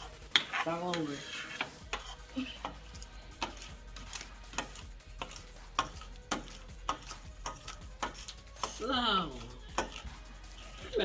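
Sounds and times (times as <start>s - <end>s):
utensil knocking against a bowl: 0.0s - 8.8s, 9.7s - 10.1s.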